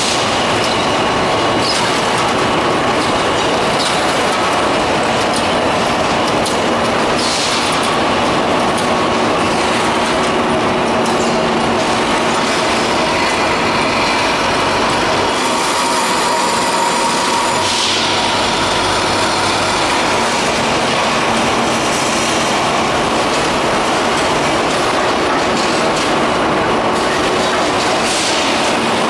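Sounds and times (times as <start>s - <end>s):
constant machine hum: 0.0s - 29.0s.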